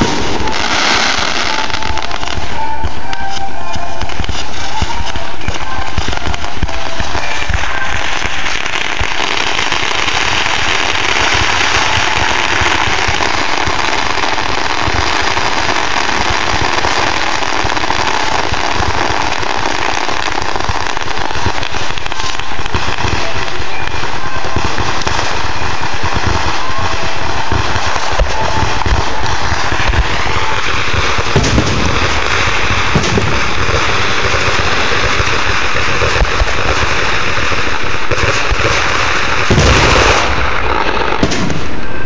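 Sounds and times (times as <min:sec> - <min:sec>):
fireworks crackling: 0:00.0 - 0:42.0.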